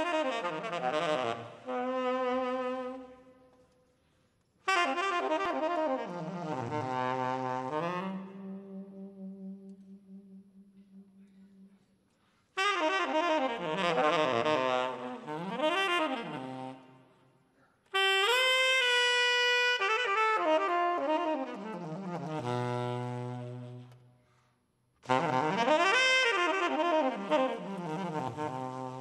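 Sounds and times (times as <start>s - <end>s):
tenor saxophone playing jazz: 0.0s - 3.6s, 4.6s - 11.9s, 12.5s - 17.2s, 17.9s - 24.1s, 25.0s - 29.0s.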